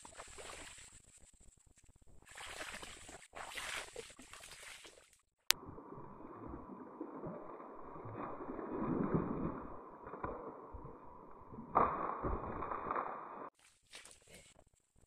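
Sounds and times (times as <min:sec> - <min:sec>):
wading through shallow water: 0:00.0 - 0:01.2, 0:02.1 - 0:14.6.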